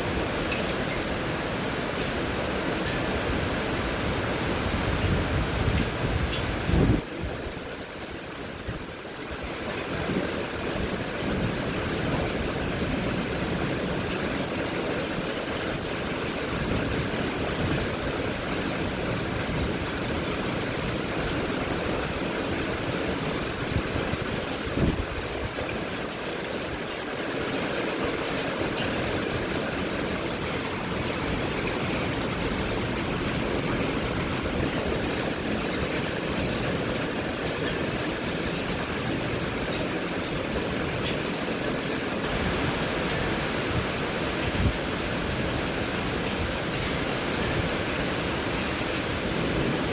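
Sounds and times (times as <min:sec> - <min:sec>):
rain: 0:00.0 - 0:49.9
wind: 0:00.0 - 0:49.9.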